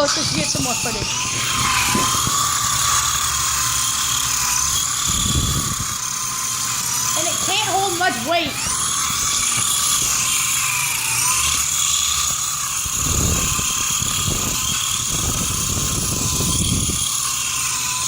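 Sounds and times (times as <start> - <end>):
toy helicopter motors whining: 0.0 - 18.0.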